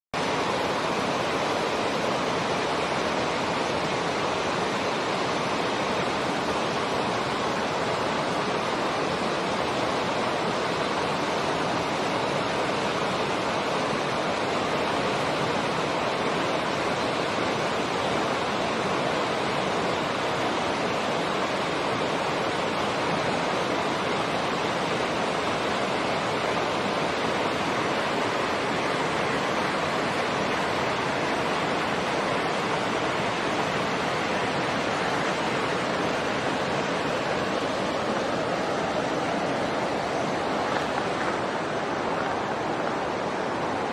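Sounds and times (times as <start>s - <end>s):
running water rushing: 0.2s - 43.9s.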